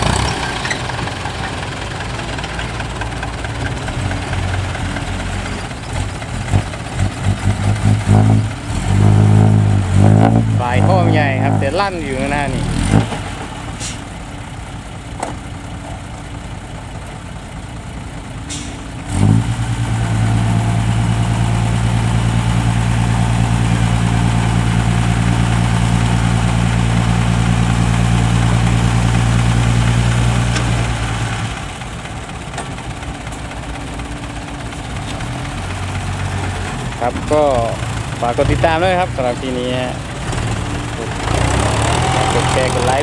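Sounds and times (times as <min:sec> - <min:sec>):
diesel truck engine idling and revving: 0:00.0 - 0:43.0.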